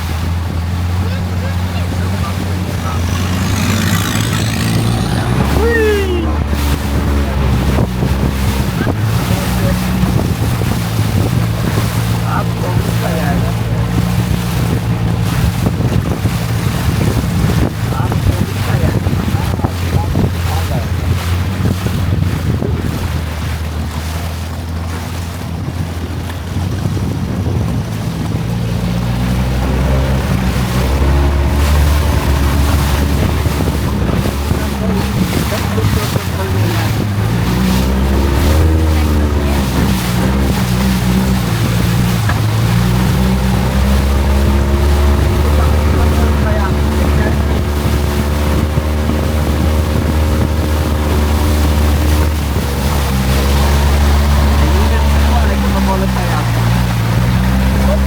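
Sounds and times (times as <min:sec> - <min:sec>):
boat engine drone: 0:00.0 - 0:58.0
water rushing past hull: 0:00.0 - 0:58.0
wind buffeting microphone: 0:00.0 - 0:58.0.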